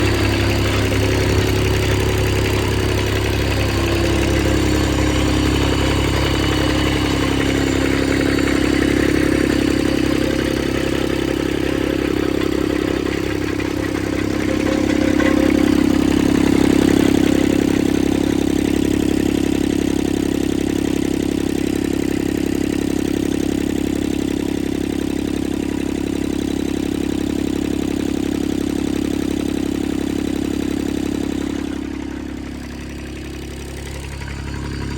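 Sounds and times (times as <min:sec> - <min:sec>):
mower engine idling: 0:00.0 - 0:34.9.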